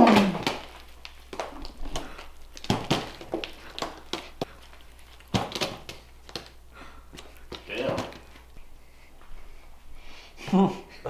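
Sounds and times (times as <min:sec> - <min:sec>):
man chewing with smacking: 0:00.0 - 0:09.7.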